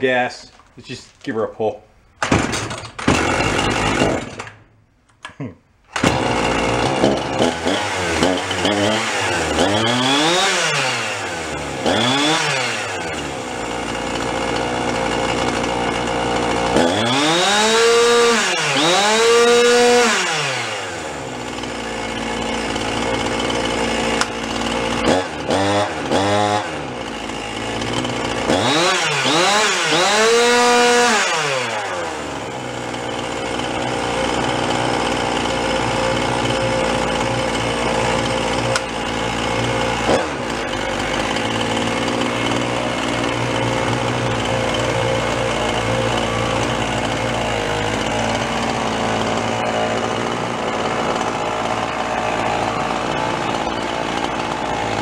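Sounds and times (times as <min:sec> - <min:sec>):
chainsaw engine revving: 0:02.2 - 0:04.7, 0:05.9 - 0:55.0.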